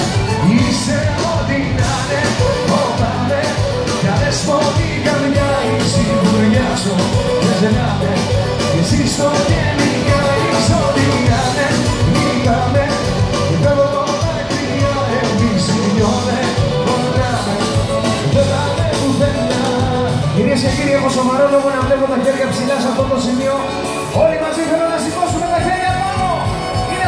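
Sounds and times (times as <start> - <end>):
live band playing loud music: 0.0 - 27.0.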